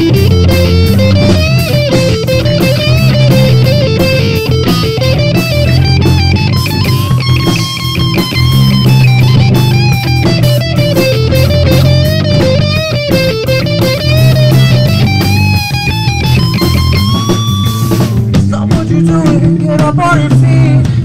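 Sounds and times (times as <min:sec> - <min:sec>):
bass guitar: 0:00.0 - 0:21.0
drums: 0:00.0 - 0:21.0
electric guitar lead melody: 0:00.0 - 0:21.0.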